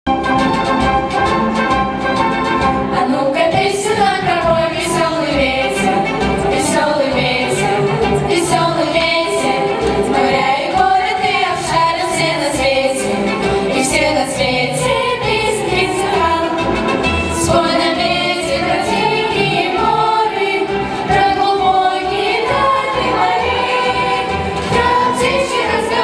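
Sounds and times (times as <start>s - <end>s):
song with singing voices: 1.9s - 26.0s.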